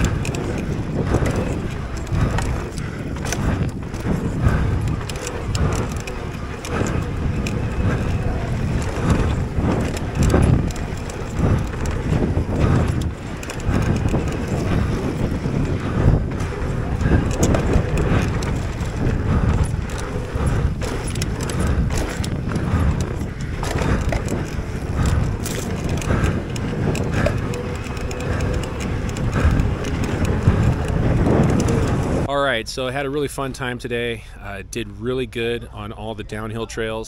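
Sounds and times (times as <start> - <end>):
bike frame rattling: 0.0 - 32.3
wind on microphone: 0.0 - 32.3
tyres on dirt: 0.0 - 33.0.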